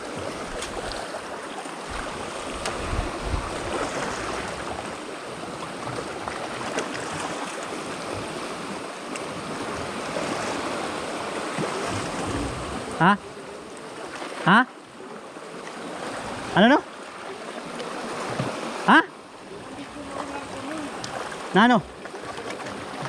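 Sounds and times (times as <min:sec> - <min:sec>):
sea water washing on shore: 0:00.0 - 0:23.0.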